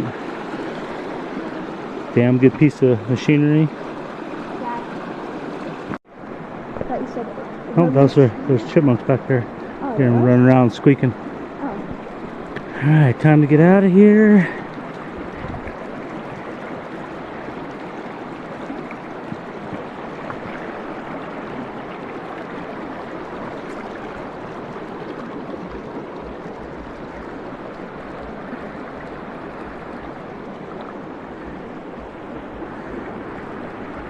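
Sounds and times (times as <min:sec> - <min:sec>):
stream flowing: 0:00.0 - 0:34.0.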